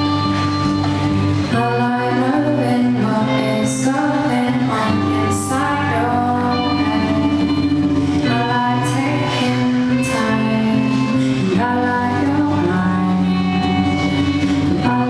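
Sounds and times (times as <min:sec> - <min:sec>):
instrumental accompaniment: 0:00.0 - 0:15.0
woman singing: 0:01.4 - 0:15.0.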